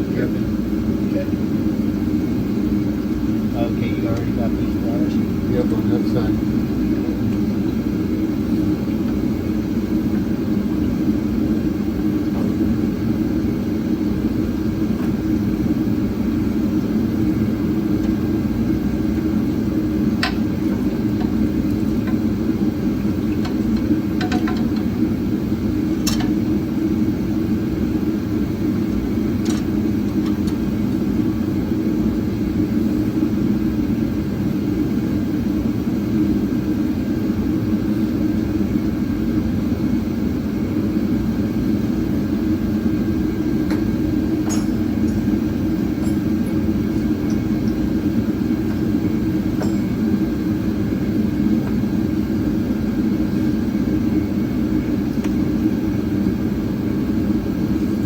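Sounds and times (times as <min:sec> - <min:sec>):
whirring rumble: 0:00.0 - 0:58.0.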